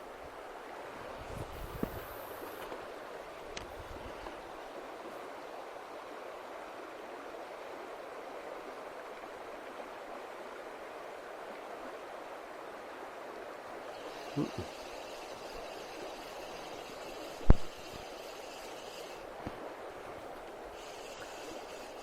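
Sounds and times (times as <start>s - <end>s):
mountain river rushing: 0.0s - 22.0s.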